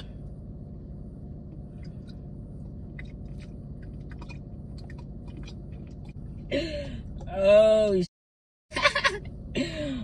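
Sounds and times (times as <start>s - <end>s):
steady low hum: 0.0s - 8.1s, 8.7s - 10.0s.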